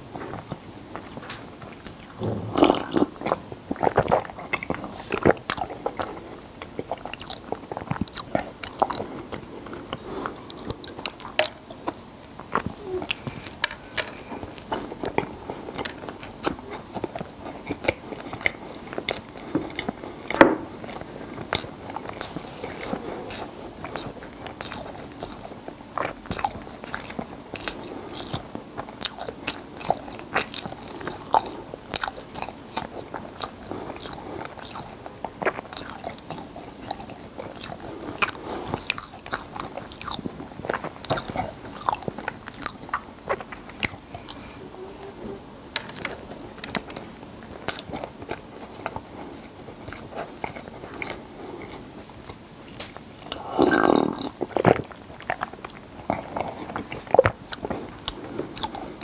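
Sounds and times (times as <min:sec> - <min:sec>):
chewing and crunching: 0:00.0 - 0:59.0.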